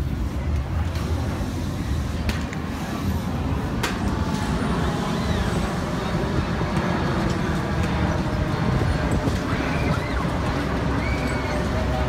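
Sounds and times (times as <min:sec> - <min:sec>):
rumble of ride machinery: 0:00.0 - 0:12.0.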